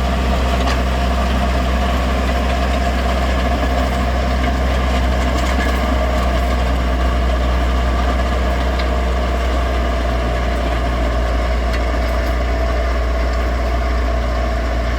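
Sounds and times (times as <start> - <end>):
farm machine engine humming: 0.0 - 14.9.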